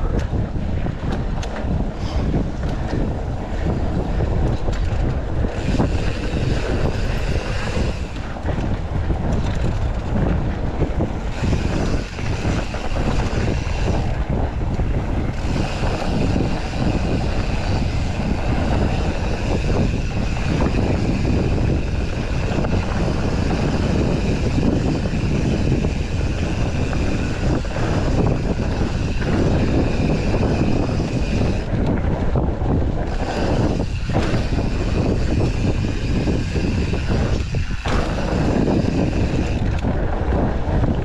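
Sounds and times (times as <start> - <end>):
bike rattling over bumps: 0.0 - 41.0
bike tyre rumble on dirt: 0.0 - 41.0
wind buffeting microphone: 0.0 - 41.0.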